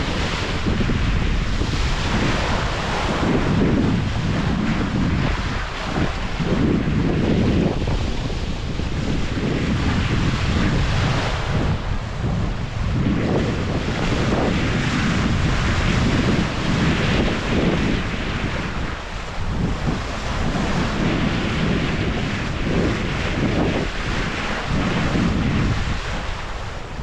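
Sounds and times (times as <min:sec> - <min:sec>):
sea water rushing: 0:00.0 - 0:27.0
wind buffeting microphone: 0:00.0 - 0:27.0.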